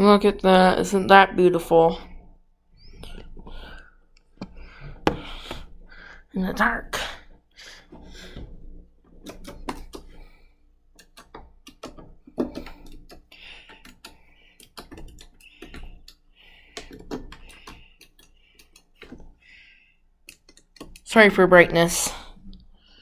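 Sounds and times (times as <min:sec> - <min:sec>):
small irregular clicks and taps: 0:02.0 - 0:06.3, 0:06.9 - 0:23.0.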